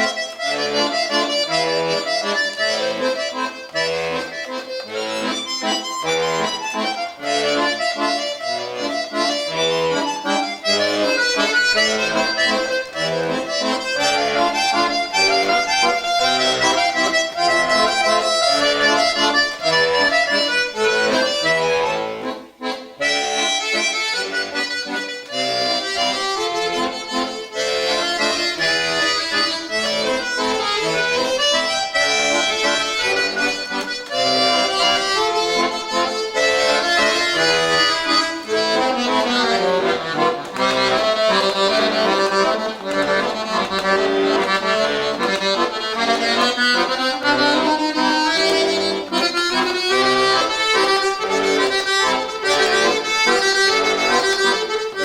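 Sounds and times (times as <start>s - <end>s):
button accordion playing a waltz: 0.0s - 55.0s.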